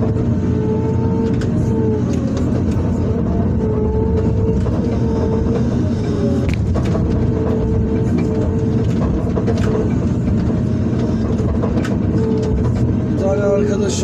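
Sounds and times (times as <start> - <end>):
excavator diesel engine rumbling: 0.0 - 14.0
steady whine: 0.0 - 14.0.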